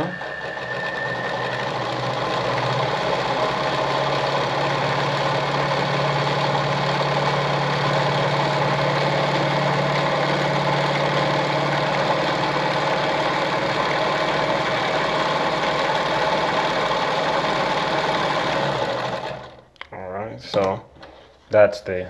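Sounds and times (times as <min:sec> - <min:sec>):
sewing machine running: 0:00.0 - 0:19.6.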